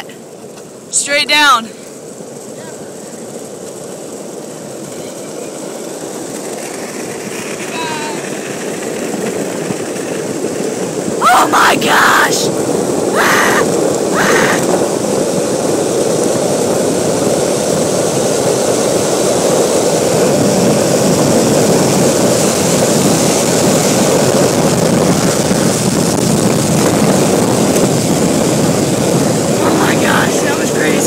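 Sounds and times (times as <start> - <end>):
longboard wheels rolling on asphalt: 0.0 - 31.0
wind rushing over microphone: 0.0 - 31.0.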